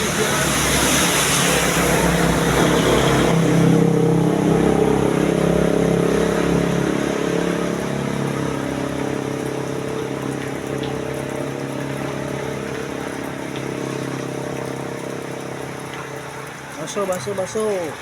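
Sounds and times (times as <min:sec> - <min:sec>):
road and traffic noise: 0:00.0 - 0:18.0.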